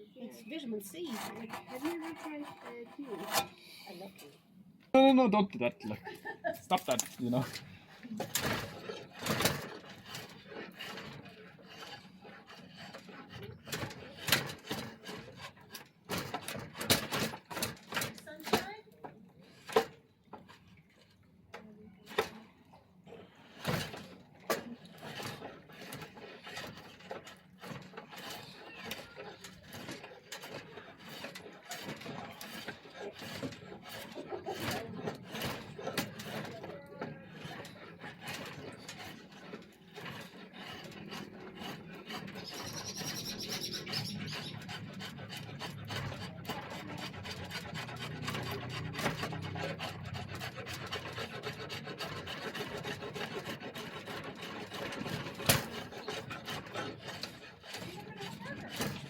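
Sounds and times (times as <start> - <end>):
hand tool rasping wood: 0.4 - 4.4, 6.7 - 20.9, 21.6 - 59.0.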